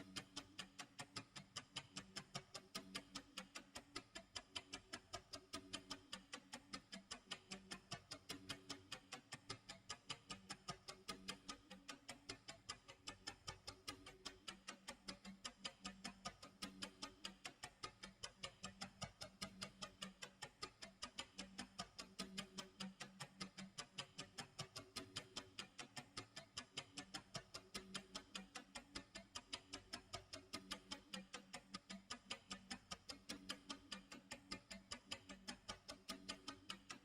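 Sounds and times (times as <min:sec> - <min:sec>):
clock ticking: 0:00.0 - 0:37.0.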